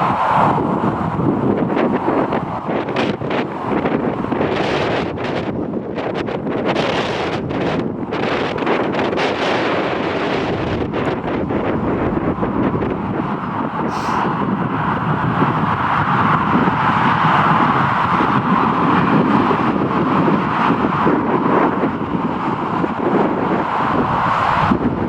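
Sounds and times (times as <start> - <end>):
jet engine noise: 0.0 - 25.0
wind buffeting microphone: 0.0 - 25.0.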